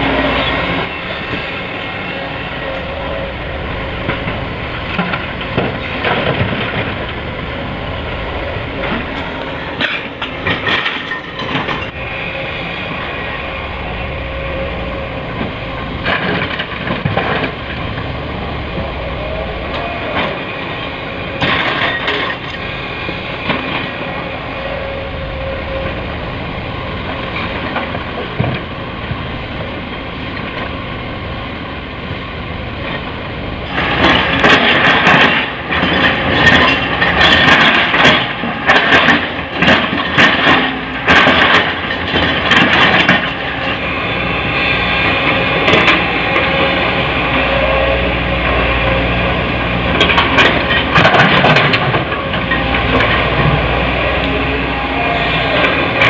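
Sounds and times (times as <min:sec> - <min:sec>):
diesel machinery running: 0:00.0 - 0:56.0.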